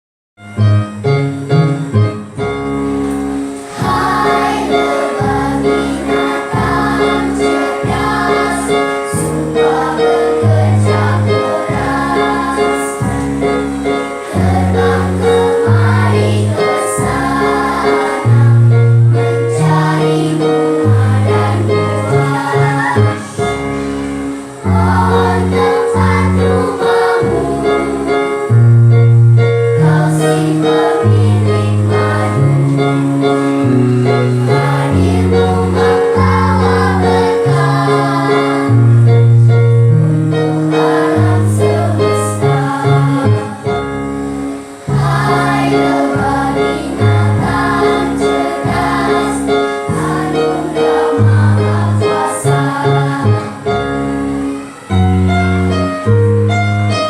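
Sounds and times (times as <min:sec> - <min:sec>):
keyboard accompaniment: 0:00.4 - 0:57.0
children's choir singing: 0:03.0 - 0:57.0.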